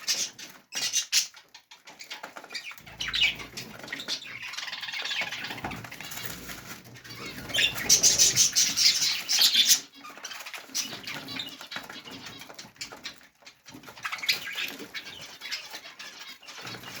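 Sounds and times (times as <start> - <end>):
budgerigars chirping and chattering: 0.0 - 17.0
quiet clicks and scratching: 0.0 - 17.0.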